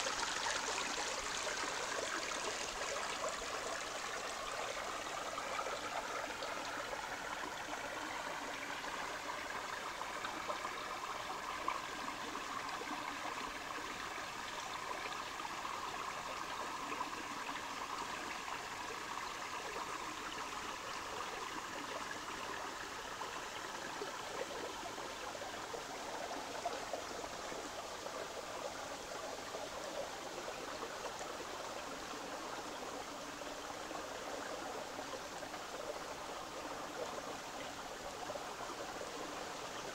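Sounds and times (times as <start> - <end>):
brook running over stones: 0.0 - 39.9.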